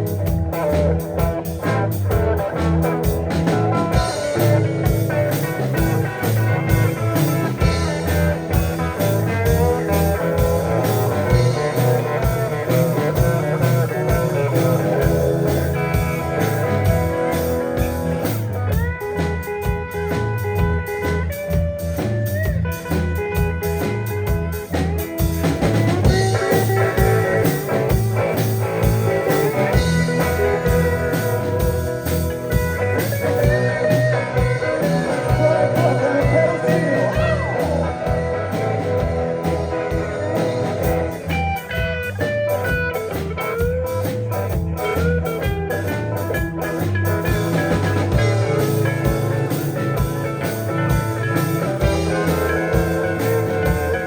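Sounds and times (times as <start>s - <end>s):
bass: 0.0s - 54.0s
drums keeping a beat: 0.0s - 54.0s
electric guitar lead: 0.0s - 54.0s.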